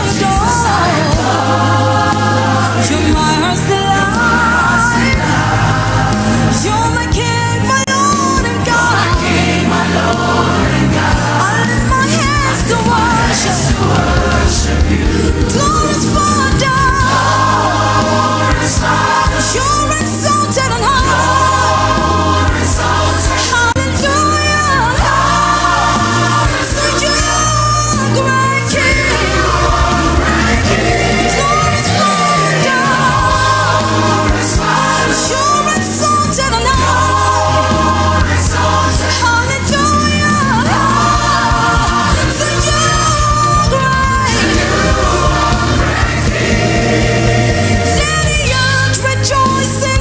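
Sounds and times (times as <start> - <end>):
gospel singing: 0.0 - 50.0
instrumental accompaniment with bass: 0.0 - 50.0.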